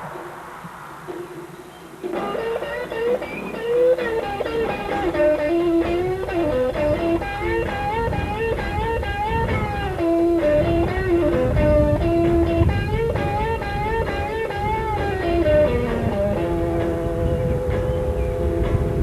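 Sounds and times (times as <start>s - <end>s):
melodic guitar lead with bends: 0.0s - 19.0s.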